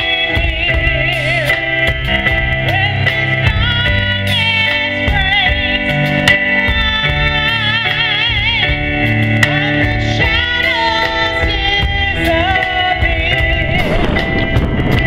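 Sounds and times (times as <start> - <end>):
drum kit: 0.0 - 15.0
electric keyboard: 0.0 - 15.0
woman singing with vibrato: 0.0 - 15.0.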